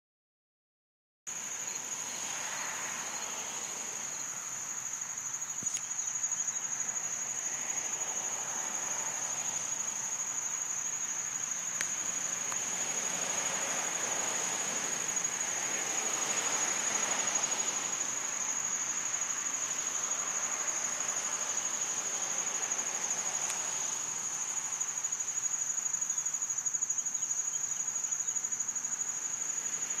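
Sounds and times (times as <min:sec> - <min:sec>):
faint hiss: 0:01.3 - 0:30.0
insects trilling: 0:01.3 - 0:30.0.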